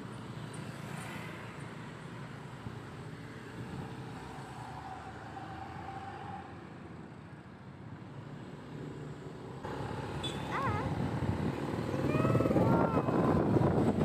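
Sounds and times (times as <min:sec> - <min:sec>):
road and traffic noise: 0:00.0 - 0:14.0.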